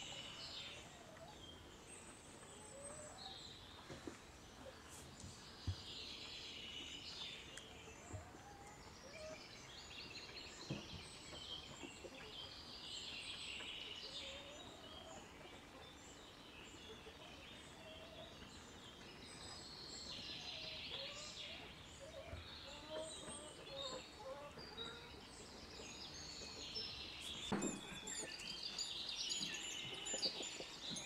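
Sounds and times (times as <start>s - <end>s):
songbirds trilling: 0.0s - 31.0s.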